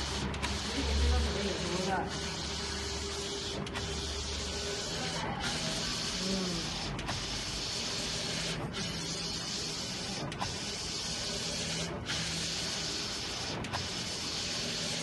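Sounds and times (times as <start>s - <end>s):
printer carriage whirring: 0.0s - 15.0s.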